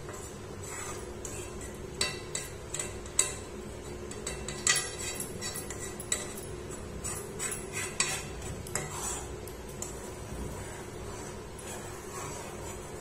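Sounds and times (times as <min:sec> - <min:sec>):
spoon scraping a pan: 0:00.0 - 0:13.0
steady low hum: 0:00.0 - 0:13.0.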